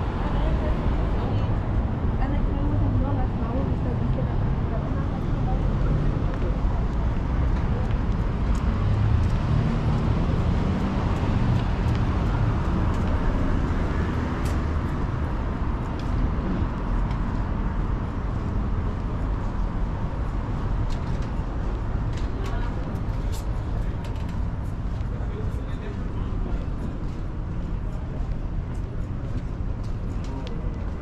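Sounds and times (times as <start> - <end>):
rumble of passing cars: 0.0 - 31.0.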